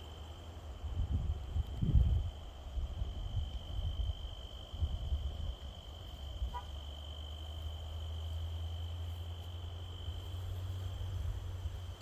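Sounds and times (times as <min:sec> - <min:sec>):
insect high-pitched trill: 0:01.8 - 0:12.0.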